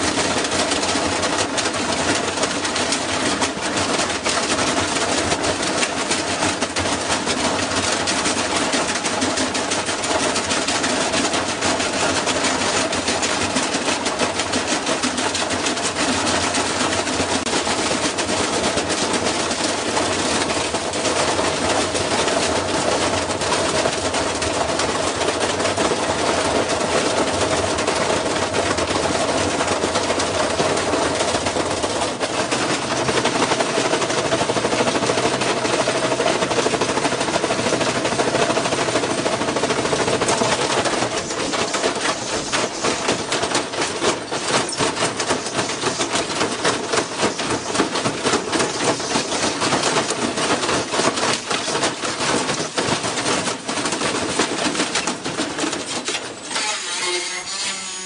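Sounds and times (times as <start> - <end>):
metal panels rattling: 0.0 - 58.0.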